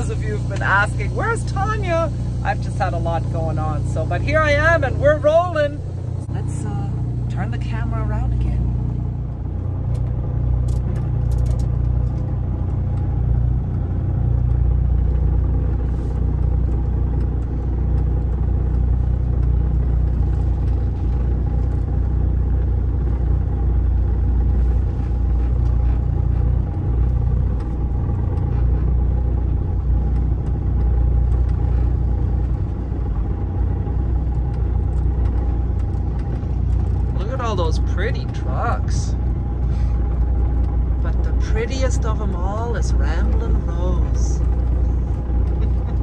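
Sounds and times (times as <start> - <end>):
steady hum: 0.0 - 46.0
truck diesel engine rumble: 0.0 - 46.0.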